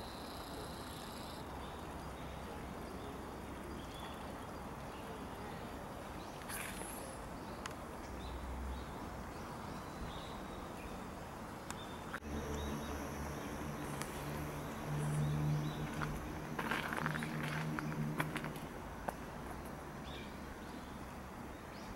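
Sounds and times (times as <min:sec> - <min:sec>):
steady background hiss: 0:00.0 - 0:21.9.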